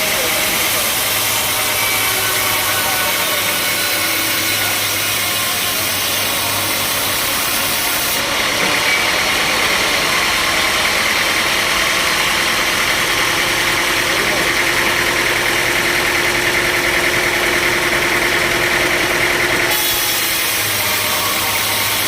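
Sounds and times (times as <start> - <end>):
sawmill machinery drone: 0.0 - 22.0.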